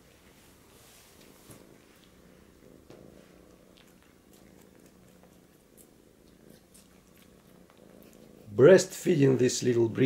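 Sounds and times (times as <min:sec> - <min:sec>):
cat purring: 0:00.0 - 0:10.0.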